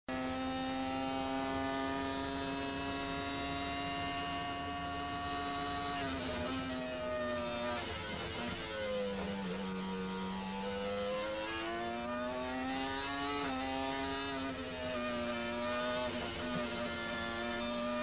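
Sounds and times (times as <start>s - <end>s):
racing engine running: 0.1s - 18.0s.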